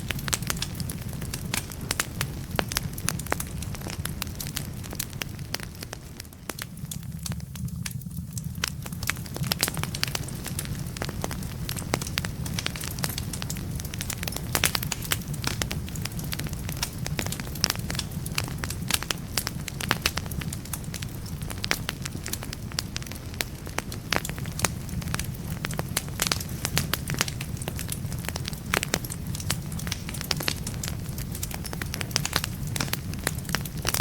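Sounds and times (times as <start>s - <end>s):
burning logs crackling and popping: 0.0s - 34.0s
low rumble of flames: 0.0s - 34.0s.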